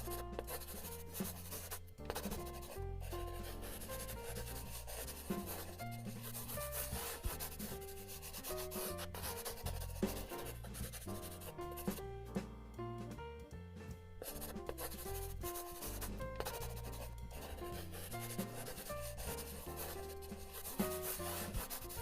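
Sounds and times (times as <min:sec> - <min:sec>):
pencil scratching on paper: 0:00.0 - 0:12.0, 0:14.2 - 0:22.0
background music: 0:00.0 - 0:22.0.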